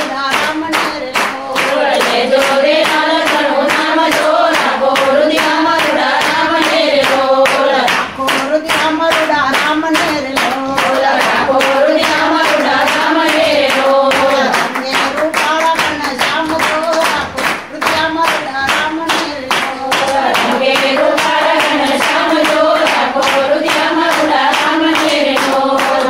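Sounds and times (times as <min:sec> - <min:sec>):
hands clapping in rhythm: 0:00.0 - 0:26.0
women singing in unison: 0:00.0 - 0:26.0.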